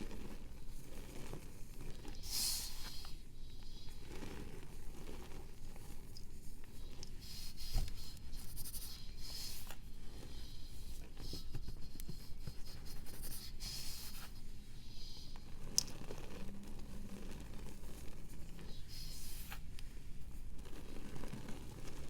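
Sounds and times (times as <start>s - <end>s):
pressed powder being scraped: 0.0s - 22.0s.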